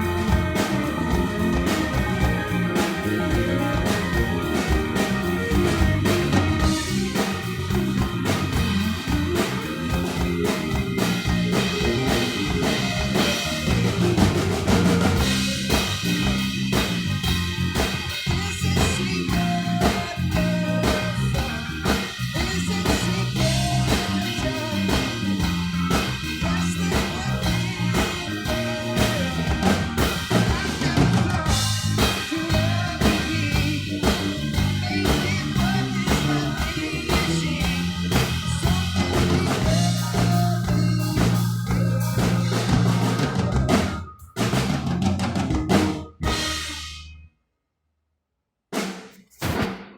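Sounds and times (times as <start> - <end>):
live band playing instrumental: 0.0 - 47.0
drum kit beat: 0.0 - 47.1, 48.8 - 49.9
bass line: 0.0 - 47.2.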